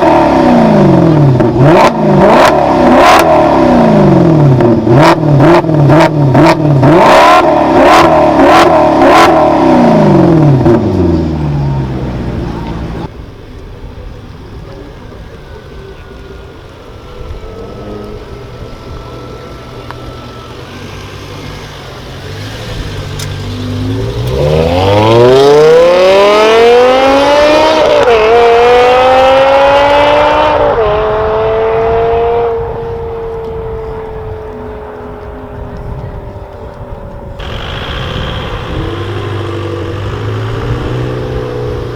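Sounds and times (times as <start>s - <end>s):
sports car engine accelerating: 0.0s - 13.1s, 16.9s - 41.9s.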